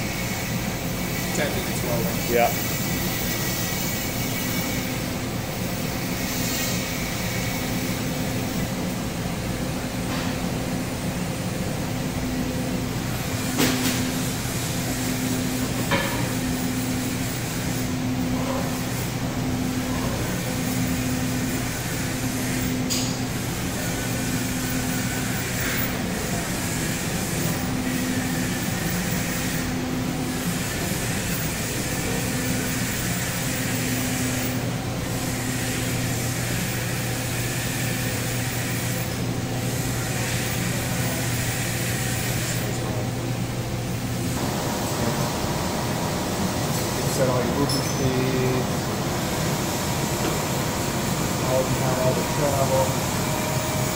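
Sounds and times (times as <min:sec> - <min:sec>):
robotic welding machine hum: 0:00.0 - 0:53.9.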